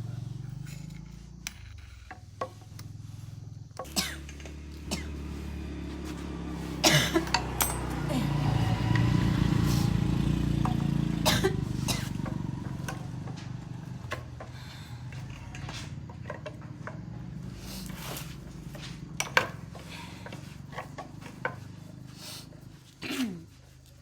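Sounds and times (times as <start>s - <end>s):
small engine humming: 0.0s - 24.0s.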